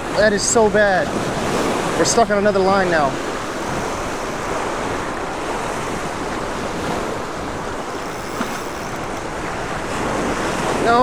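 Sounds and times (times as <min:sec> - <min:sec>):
surf breaking over rocks: 0:00.0 - 0:11.0
wind buffeting microphone: 0:00.0 - 0:11.0.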